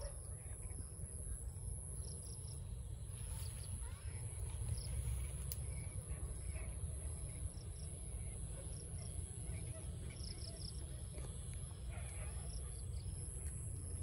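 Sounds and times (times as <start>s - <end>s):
insect trill: 0.0s - 14.0s.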